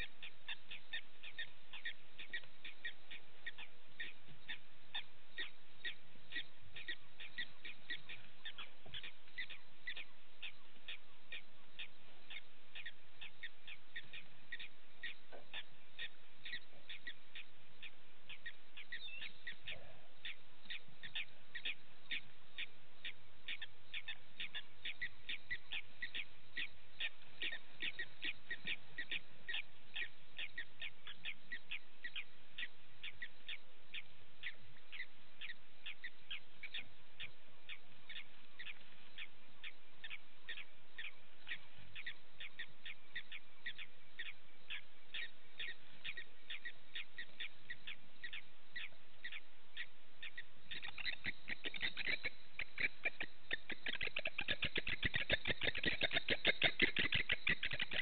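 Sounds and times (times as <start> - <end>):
rhythmic high animal chirping: 0.0 - 58.0.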